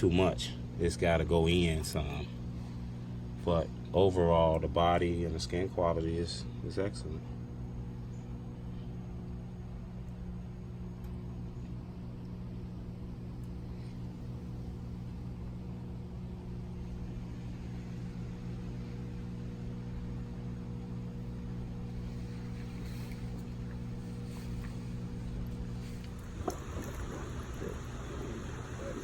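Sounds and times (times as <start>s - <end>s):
motor humming: 0.0s - 29.0s.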